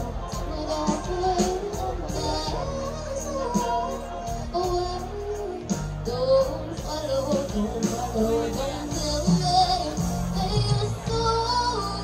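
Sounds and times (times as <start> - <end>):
backing music: 0.0 - 12.0
woman singing into a microphone: 0.0 - 12.0.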